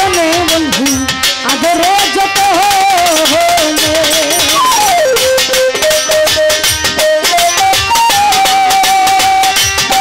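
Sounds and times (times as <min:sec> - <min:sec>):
lead instrument melody: 0:00.0 - 0:10.0
steady drumming: 0:00.0 - 0:10.0.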